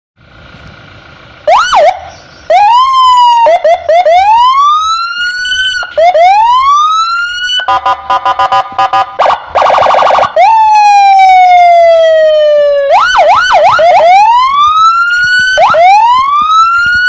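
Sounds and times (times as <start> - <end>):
electronic siren wailing: 1.5 - 17.0.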